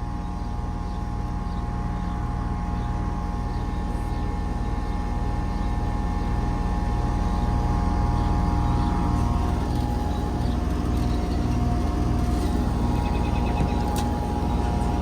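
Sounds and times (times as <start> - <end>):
air conditioner unit humming: 0.0 - 15.0
condenser fan whirring: 0.0 - 15.0.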